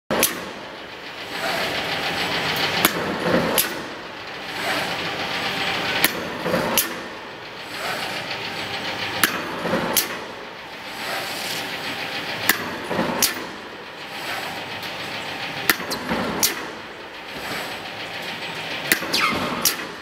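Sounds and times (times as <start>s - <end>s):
machine feed whirring: 0.1s - 20.0s.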